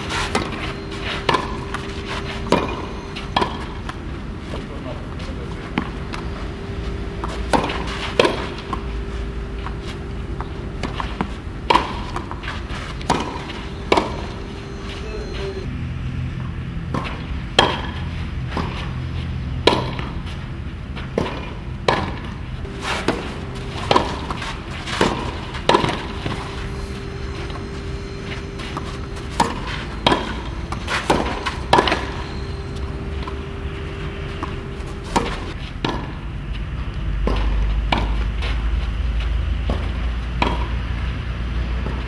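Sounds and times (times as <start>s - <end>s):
tennis balls struck with rackets: 0.0s - 4.1s, 5.6s - 15.5s, 16.4s - 19.0s, 19.6s - 20.2s, 21.1s - 36.3s, 37.2s - 38.6s, 39.2s - 40.9s.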